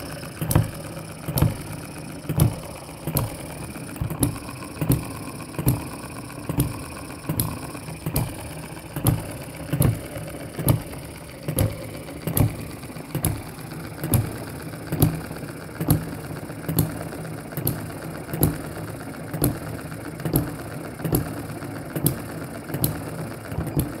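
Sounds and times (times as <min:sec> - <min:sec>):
model engine beating: 0:00.0 - 0:24.0.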